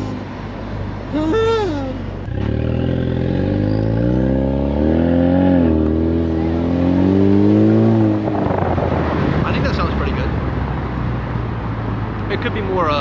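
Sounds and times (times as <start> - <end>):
car engine accelerating: 1.2 - 12.4.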